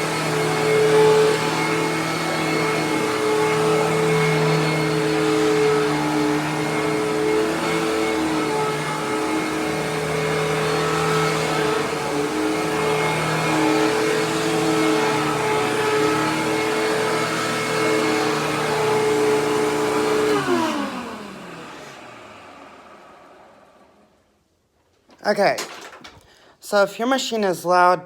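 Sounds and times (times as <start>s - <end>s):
upright vacuum cleaner running: 0.0s - 24.2s.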